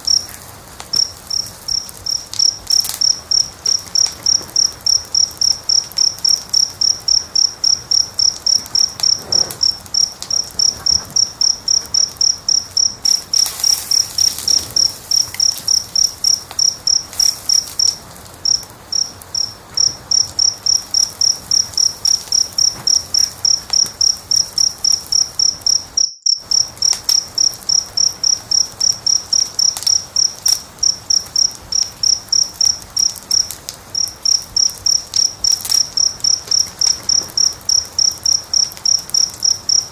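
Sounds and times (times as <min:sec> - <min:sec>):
cricket chirping: 0:00.0 - 0:39.9
fire crackling: 0:00.0 - 0:39.9.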